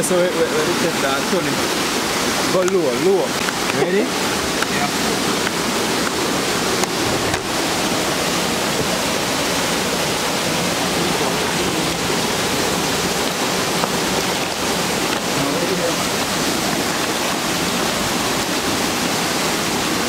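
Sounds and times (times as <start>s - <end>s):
waterfall roar: 0.0s - 20.0s.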